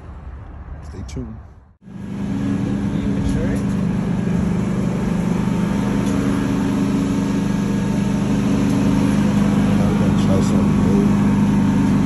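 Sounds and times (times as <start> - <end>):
engine idling: 1.8 - 12.0.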